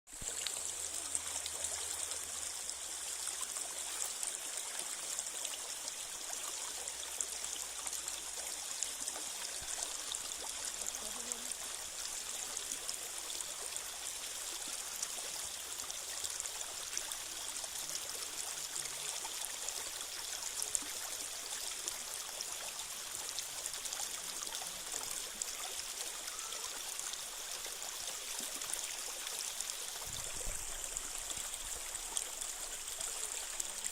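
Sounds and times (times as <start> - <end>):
creek water rushing: 0.1 - 33.9.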